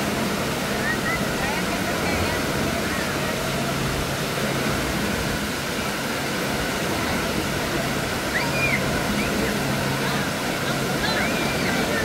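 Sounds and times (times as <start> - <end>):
falling and splashing water: 0.0 - 12.0.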